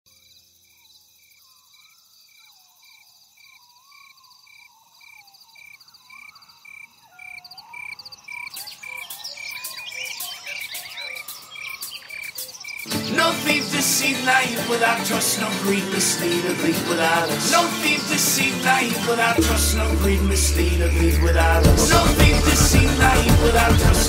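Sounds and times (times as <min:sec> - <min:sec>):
croaking and chirping calls: 0:00.1 - 0:24.0.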